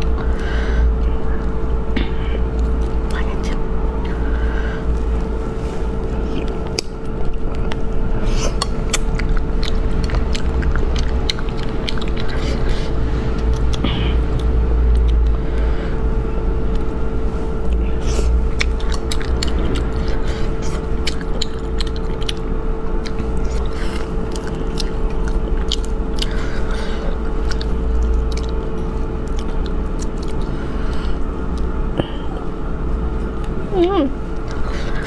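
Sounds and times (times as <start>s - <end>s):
low hum: 0.0s - 35.0s
person chewing and tearing food: 0.0s - 35.0s.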